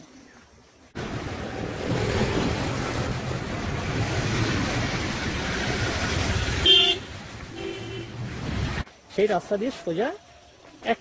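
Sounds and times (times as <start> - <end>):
road traffic engine and tyre noise: 0.9 - 11.0.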